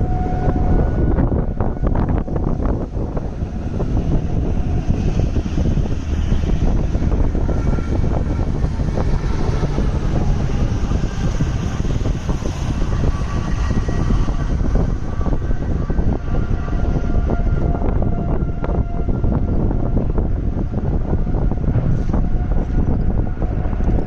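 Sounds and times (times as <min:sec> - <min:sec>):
tornado winds rumbling: 0:00.0 - 0:24.0.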